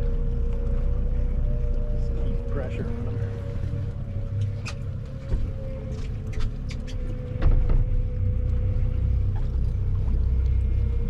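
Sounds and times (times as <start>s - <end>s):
boat engine rumbling: 0.0s - 11.0s
steady whine: 0.0s - 11.0s.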